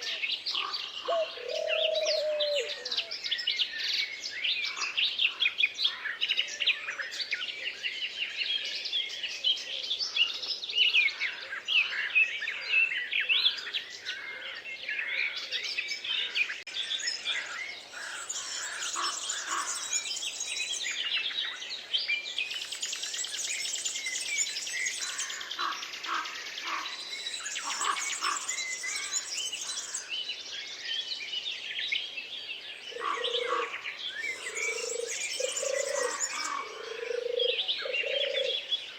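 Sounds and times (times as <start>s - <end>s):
songbirds chorus: 0.0s - 38.9s.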